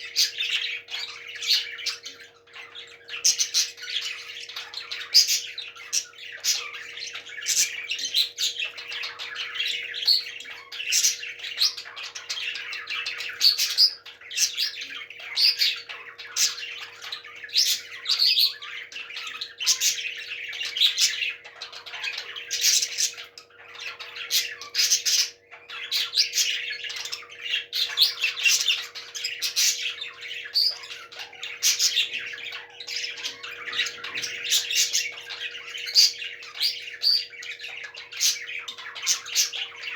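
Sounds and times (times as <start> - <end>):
parrots squawking: 0.0 - 39.9.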